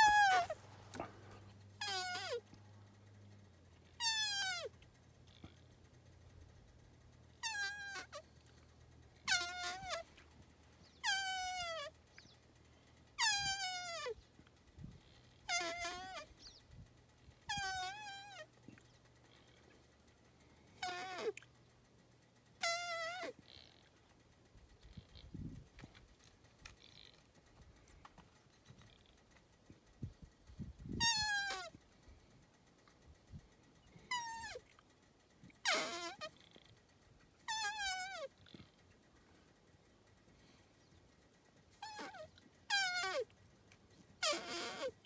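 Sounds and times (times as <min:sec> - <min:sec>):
faint rustles and clicks: 0:00.0 - 0:45.0.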